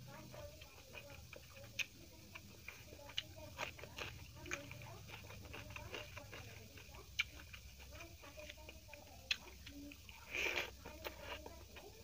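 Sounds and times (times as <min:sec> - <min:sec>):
chewing with wet mouth clicks: 0:00.3 - 0:12.0.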